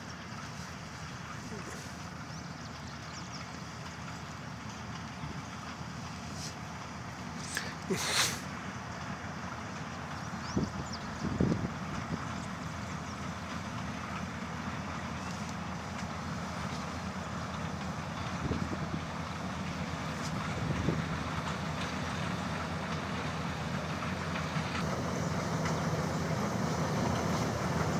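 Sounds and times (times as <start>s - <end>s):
combine harvester running: 0.0s - 27.9s.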